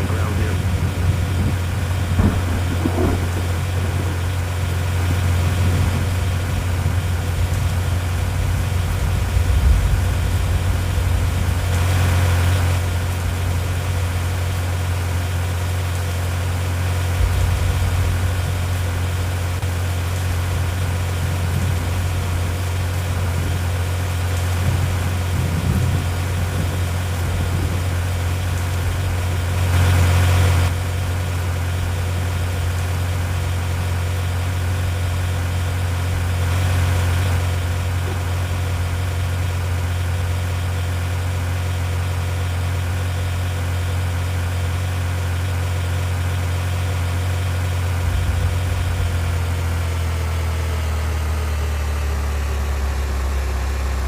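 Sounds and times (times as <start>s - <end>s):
rushing noise: 0.0s - 42.8s, 46.1s - 54.0s
vehicle engine humming: 0.0s - 54.0s.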